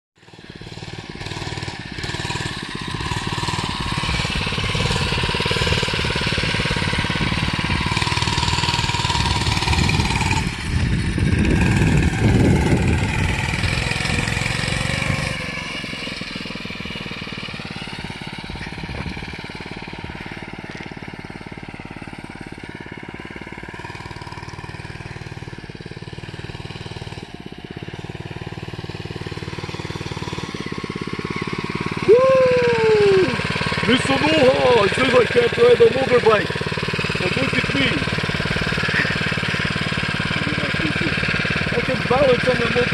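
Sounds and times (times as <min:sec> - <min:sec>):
mini bike engine revving: 0:00.2 - 0:42.9.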